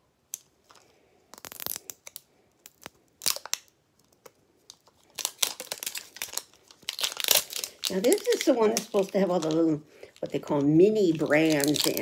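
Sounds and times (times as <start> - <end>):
plastic wrapping crinkling: 0.6 - 12.0.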